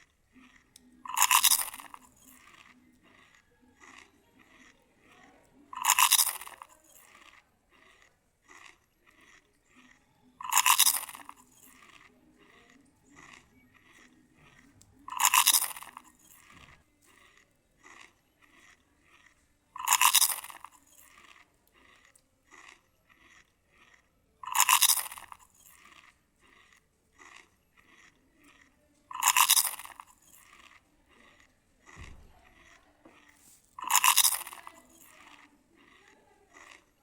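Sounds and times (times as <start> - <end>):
chewing clicks and smacks: 0.0 - 37.0
crunchy bites: 0.0 - 37.0.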